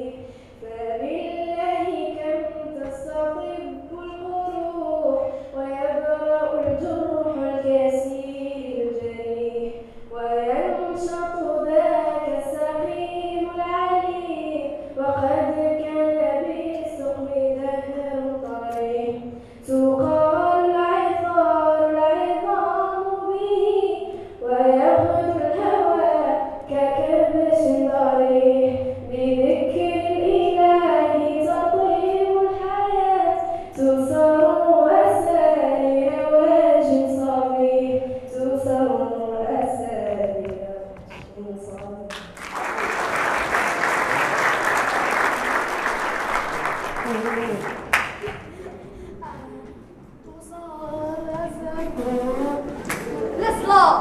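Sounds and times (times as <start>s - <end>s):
girl singing into microphone: 0.0s - 42.4s, 48.3s - 54.0s.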